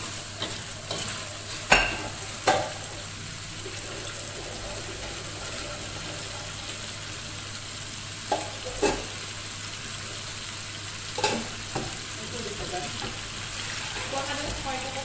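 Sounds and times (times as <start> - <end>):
chicken sizzling in a wok: 0.0 - 15.0.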